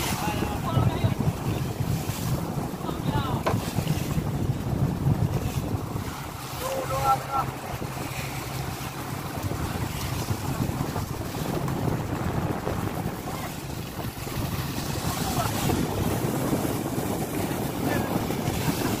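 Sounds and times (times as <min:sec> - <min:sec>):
boat engine drone: 0:00.0 - 0:19.0
water splashing along hull: 0:00.0 - 0:19.0
wind buffeting microphone: 0:00.0 - 0:19.0.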